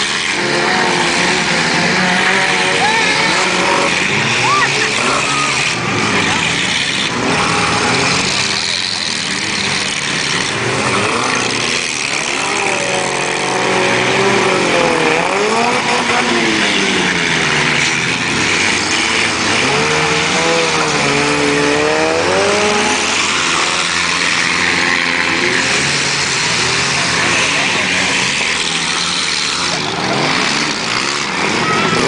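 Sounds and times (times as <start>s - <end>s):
car engines revving: 0.0s - 32.0s
din of running engines: 0.0s - 32.0s.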